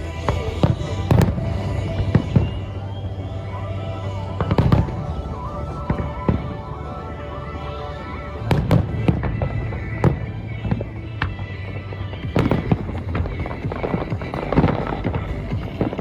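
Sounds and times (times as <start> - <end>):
fireworks bursting: 0.0 - 16.0
music playing: 0.0 - 16.0.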